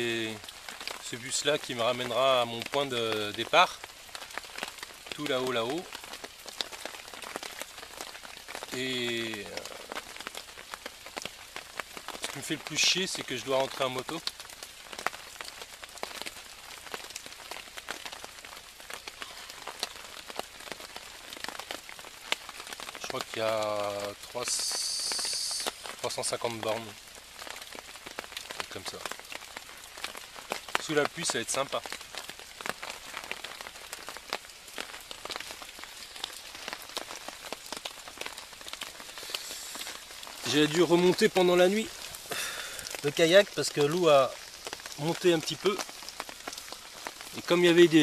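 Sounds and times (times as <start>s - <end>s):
rain on a tarp: 0.0s - 48.0s.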